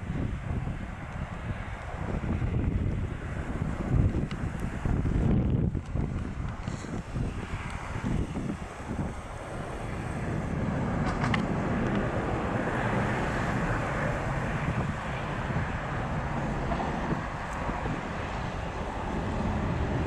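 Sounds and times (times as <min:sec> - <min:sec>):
jet airliner engine roar: 0:00.0 - 0:20.0
wind on microphone: 0:00.0 - 0:20.0.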